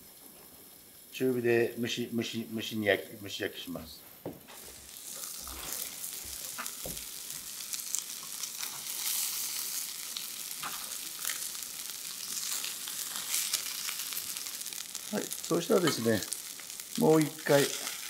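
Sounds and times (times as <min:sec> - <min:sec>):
food sizzling in frying pan: 0:00.0 - 0:03.8, 0:04.4 - 0:18.0.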